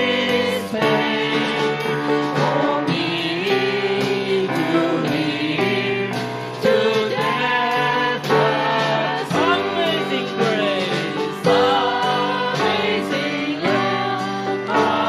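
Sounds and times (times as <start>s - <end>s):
live band playing: 0.0s - 15.0s
voices singing together: 0.0s - 15.0s.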